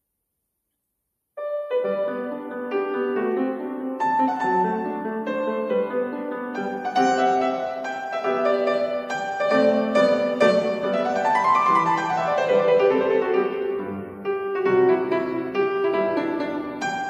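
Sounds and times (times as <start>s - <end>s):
solo grand piano: 1.4s - 17.0s.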